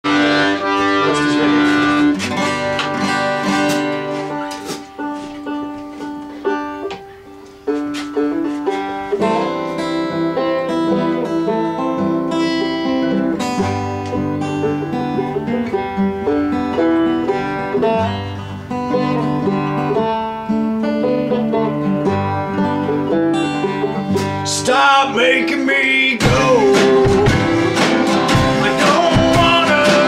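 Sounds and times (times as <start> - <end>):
accordion chords: 0.0 - 30.0
strummed acoustic guitars: 0.0 - 30.0.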